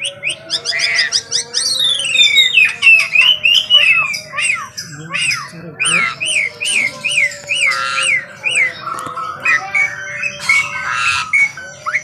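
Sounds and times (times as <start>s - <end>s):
starling singing: 0.0s - 12.0s.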